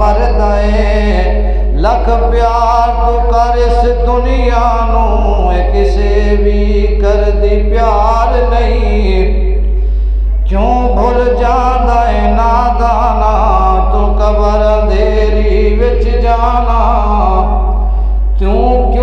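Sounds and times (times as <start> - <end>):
man chanting: 0.0 - 19.0
steady low hum: 0.0 - 19.0.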